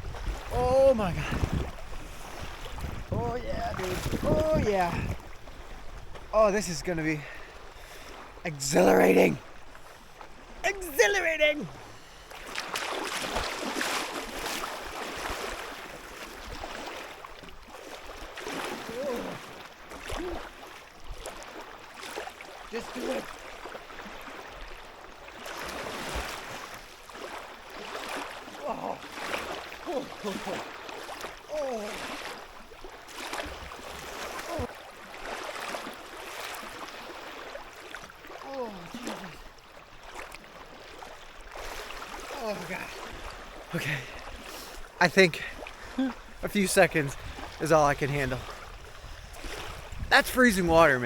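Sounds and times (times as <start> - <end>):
water splashing around wading person: 0.0 - 51.0.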